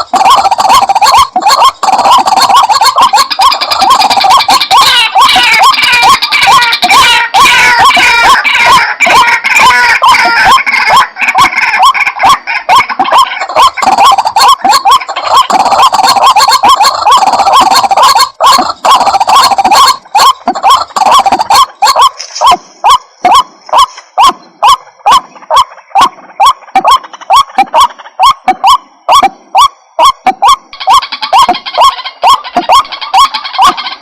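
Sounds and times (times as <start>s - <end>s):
waterhen calling repeated notes: 0.0s - 34.0s.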